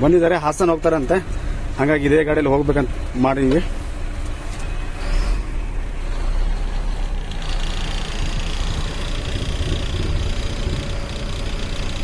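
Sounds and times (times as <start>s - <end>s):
diesel engine low rumble: 0.0s - 12.0s.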